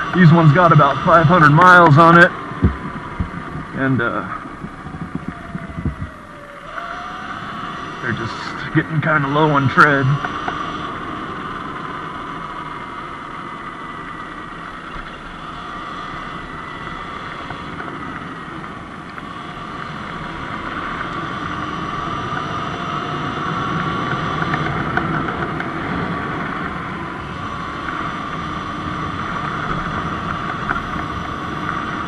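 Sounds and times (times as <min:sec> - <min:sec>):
electric motor whine: 0:00.0 - 0:32.0
wind and tyre noise: 0:00.0 - 0:32.0.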